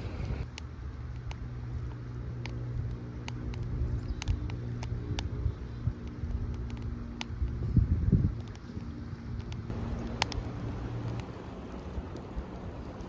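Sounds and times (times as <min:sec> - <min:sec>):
low steady engine-like hum: 0:00.0 - 0:13.0
sharp crackles of burning sticks: 0:00.0 - 0:13.0.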